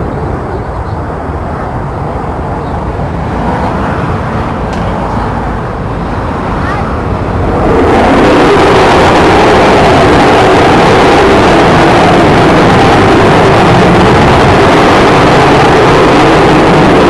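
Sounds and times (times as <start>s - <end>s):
loud jet roar overhead: 0.0s - 17.0s.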